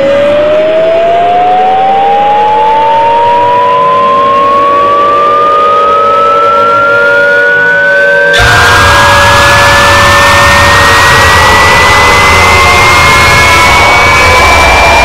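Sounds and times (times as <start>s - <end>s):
air raid siren winding up: 0.0s - 15.0s
loud harsh noise: 0.0s - 15.0s
low drone: 0.0s - 15.0s.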